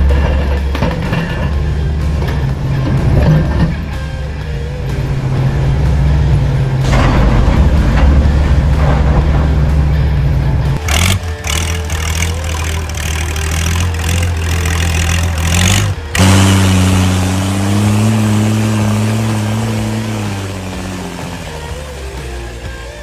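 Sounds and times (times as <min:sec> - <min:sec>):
engine pitch rising: 0:00.0 - 0:23.0
heavy vehicle engine running: 0:00.0 - 0:23.0.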